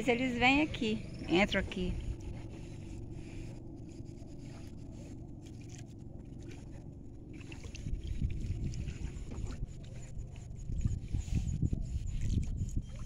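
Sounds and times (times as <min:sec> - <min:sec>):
faint hum: 0:00.0 - 0:13.0
low gusty rumble: 0:00.0 - 0:13.0.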